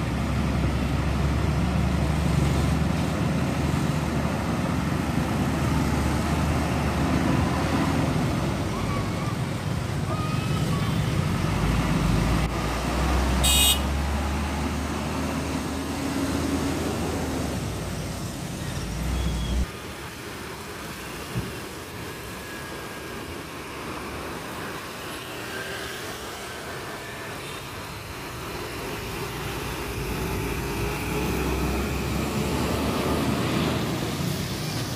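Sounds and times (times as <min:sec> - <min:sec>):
road traffic: 0:00.0 - 0:34.9.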